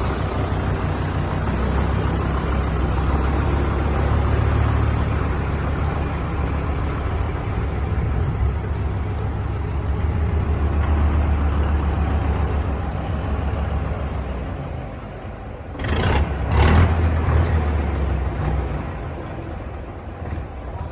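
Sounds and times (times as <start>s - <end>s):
large vehicle engine rumbling: 0.0s - 20.9s.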